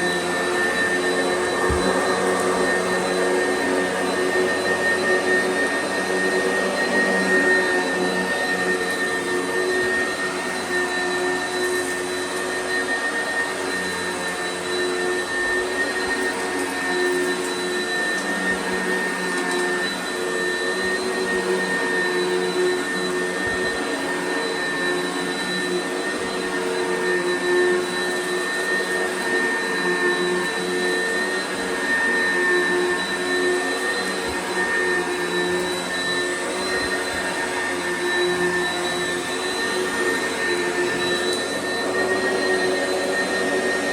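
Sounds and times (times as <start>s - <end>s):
upright vacuum cleaner running: 0.0s - 43.9s.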